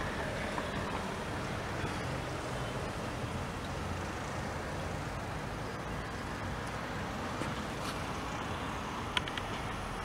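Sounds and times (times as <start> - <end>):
distant train rumble: 0.0 - 10.0
outdoor background noise: 0.0 - 10.0.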